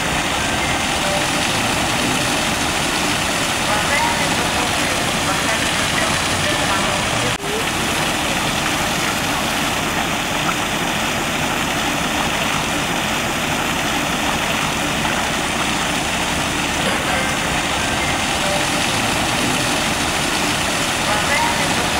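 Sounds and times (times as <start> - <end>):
fountain splashing into basin: 0.0 - 21.9.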